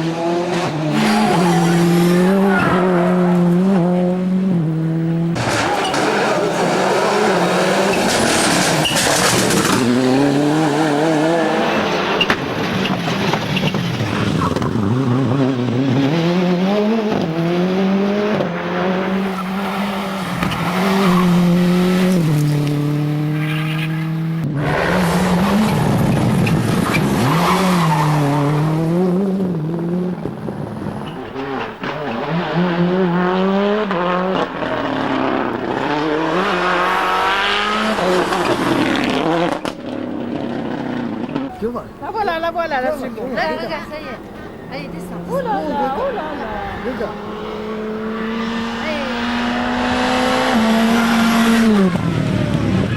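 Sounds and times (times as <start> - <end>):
rally car engine accelerating and braking: 0.0 - 42.1, 44.2 - 52.9.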